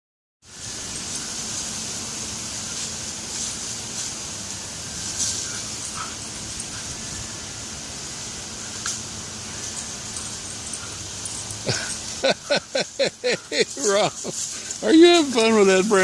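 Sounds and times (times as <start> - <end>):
rustling of dry leaves: 0.4 - 16.0.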